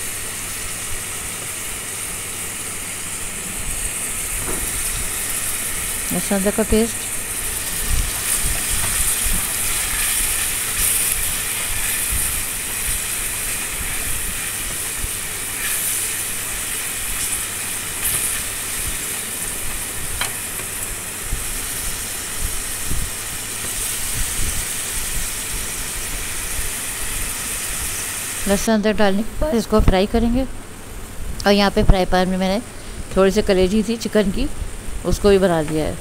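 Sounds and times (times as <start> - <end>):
onions sizzling in oil: 0.0 - 36.0.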